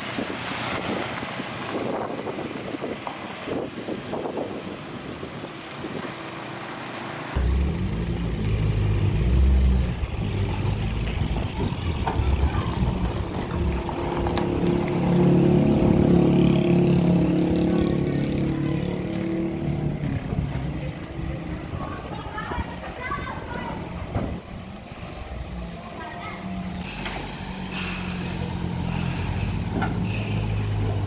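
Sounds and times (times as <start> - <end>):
truck engine under heavy load: 0.0 - 31.0.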